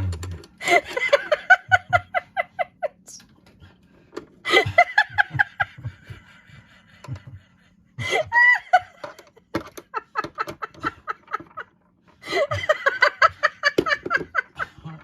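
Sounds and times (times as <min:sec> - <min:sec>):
person laughing: 0:00.6 - 0:03.2, 0:04.4 - 0:15.0.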